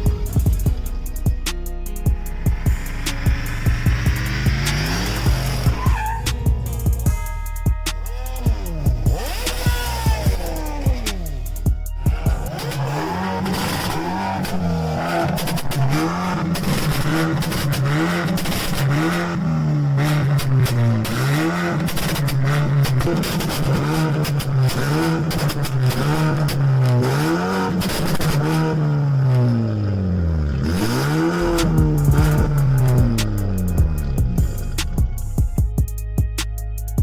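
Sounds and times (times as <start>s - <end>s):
car engine revving: 0.0s - 35.6s.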